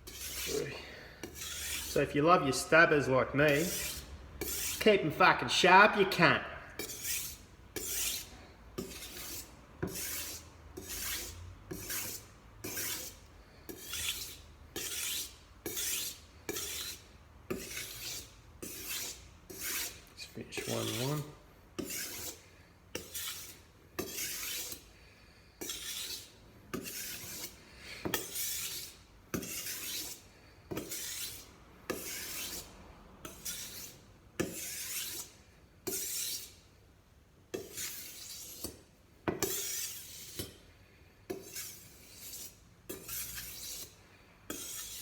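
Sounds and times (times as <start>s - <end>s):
knife scraping on whetstone: 0.0s - 2.7s, 3.5s - 4.9s, 6.8s - 24.9s, 25.6s - 36.6s, 37.5s - 40.6s, 41.3s - 45.0s.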